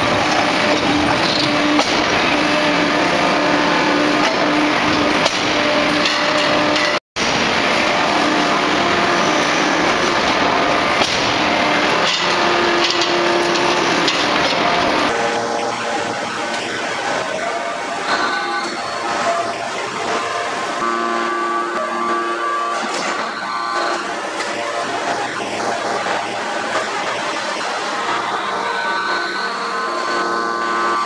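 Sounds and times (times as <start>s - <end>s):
hydraulic press mechanical din: 0.0s - 31.0s.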